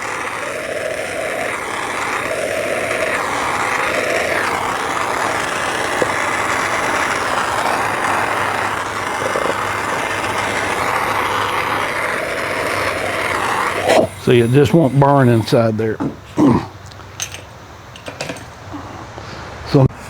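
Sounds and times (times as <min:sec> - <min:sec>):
gas torch flame: 0:00.0 - 0:19.8.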